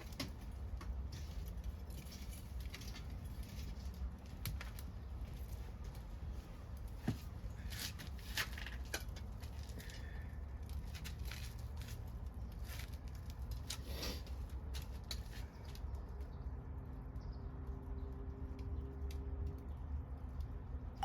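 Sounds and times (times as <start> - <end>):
wood fire crackling: 0.0 - 20.8.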